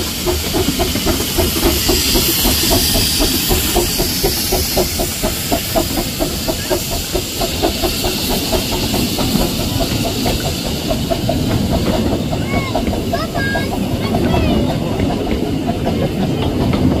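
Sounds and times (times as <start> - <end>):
steam hissing: 0.0 - 17.0
steam locomotive chuffing: 0.0 - 17.0.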